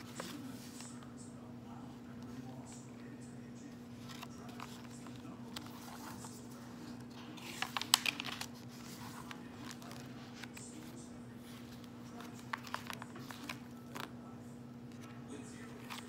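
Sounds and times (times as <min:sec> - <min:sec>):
paper pages crinkling and tapping: 0:00.0 - 0:01.2, 0:02.1 - 0:14.2, 0:14.8 - 0:16.0
steady low hum: 0:00.0 - 0:16.0.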